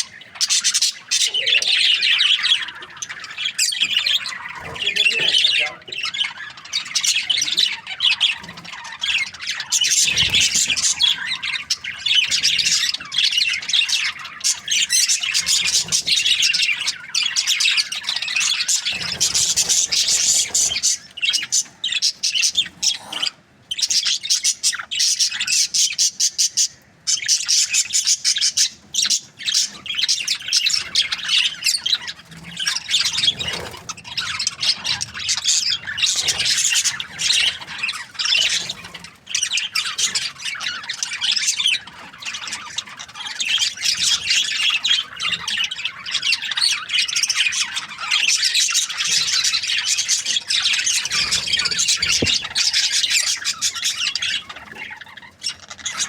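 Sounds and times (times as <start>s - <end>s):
budgerigars chirping and squawking: 0.0s - 56.0s.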